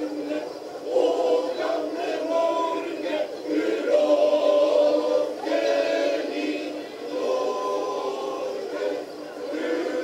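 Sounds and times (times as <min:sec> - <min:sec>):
men's choir singing: 0:00.0 - 0:10.0.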